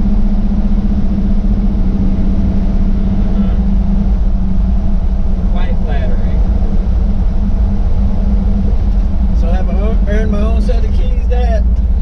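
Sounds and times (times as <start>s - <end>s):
truck engine low rumble: 0.0s - 12.0s.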